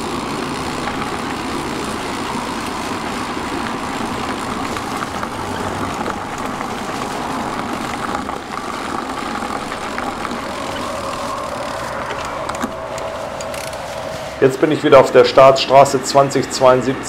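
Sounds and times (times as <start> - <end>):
wind noise: 0.0 - 15.8
faint steady whine: 0.0 - 16.9
road noise from bike riding: 0.0 - 17.0.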